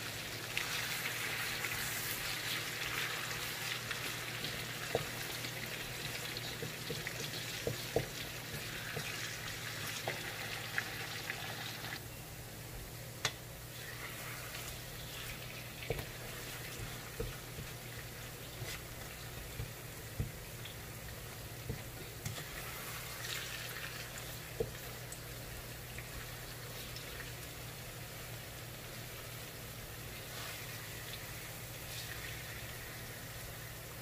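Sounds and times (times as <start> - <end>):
bananas sizzling in oil: 0.0 - 12.0, 13.7 - 34.0.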